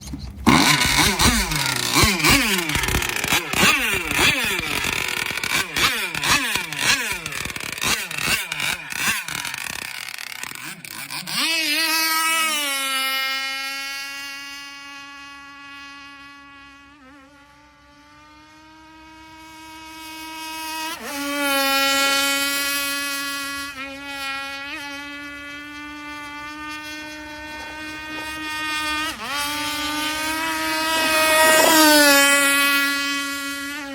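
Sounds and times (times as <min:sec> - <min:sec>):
motorboat engine whine: 0:00.0 - 0:33.9.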